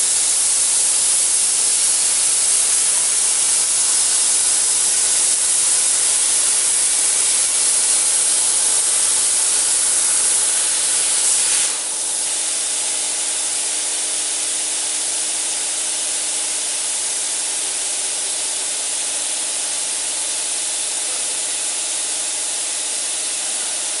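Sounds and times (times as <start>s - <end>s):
plasma torch cutting hiss: 0.0s - 24.0s.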